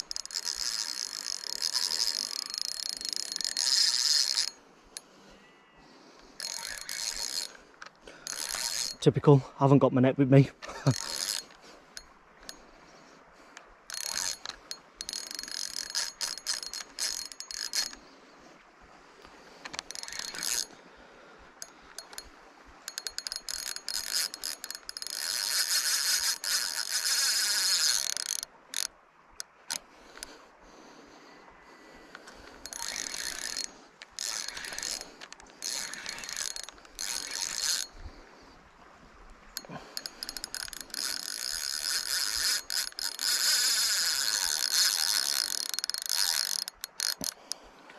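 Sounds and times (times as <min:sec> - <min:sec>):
fishing reel ratcheting: 0:00.0 - 0:05.1, 0:06.2 - 0:09.3, 0:10.6 - 0:12.6, 0:13.9 - 0:18.2, 0:19.6 - 0:20.8, 0:21.6 - 0:30.4, 0:31.8 - 0:38.1, 0:39.6 - 0:47.7.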